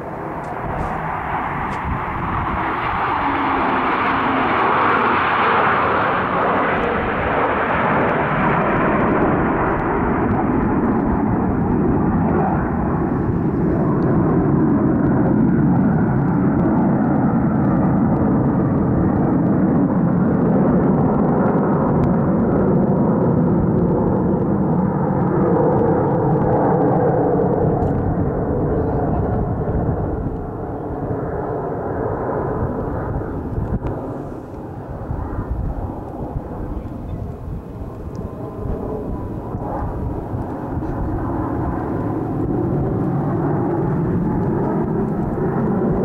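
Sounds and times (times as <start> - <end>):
jet engine roar: 0.0 - 46.0.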